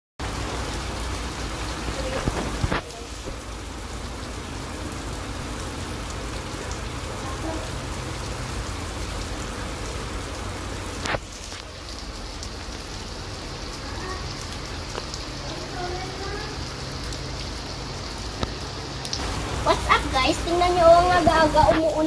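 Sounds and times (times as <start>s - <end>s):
rain on a concrete roof: 0.2s - 22.0s.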